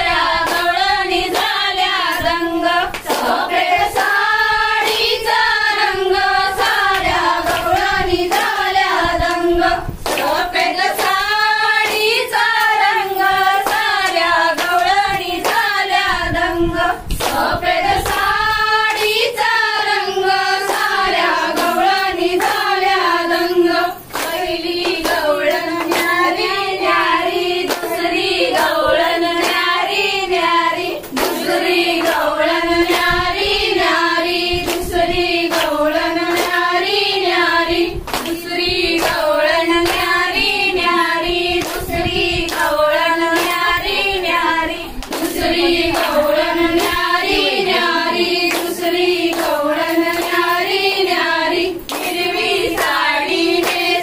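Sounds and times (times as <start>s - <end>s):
rhythmic hand clapping: 0.0s - 54.0s
women singing folk song: 0.0s - 54.0s.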